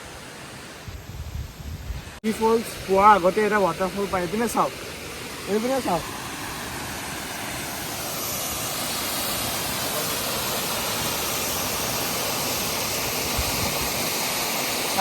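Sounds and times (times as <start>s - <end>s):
waterfall rushing: 2.0s - 15.0s.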